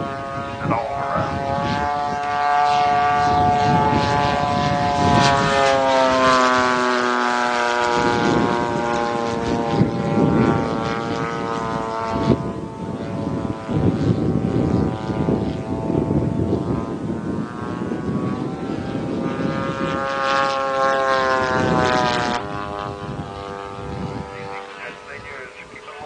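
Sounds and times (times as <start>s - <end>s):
model plane engine buzzing: 0.0s - 26.0s.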